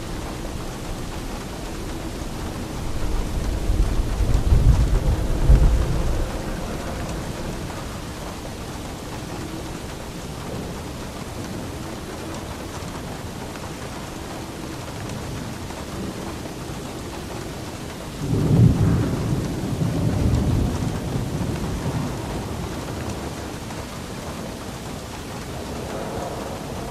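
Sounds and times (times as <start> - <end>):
steady rain: 0.0 - 26.9
thunder rumble: 0.0 - 26.9.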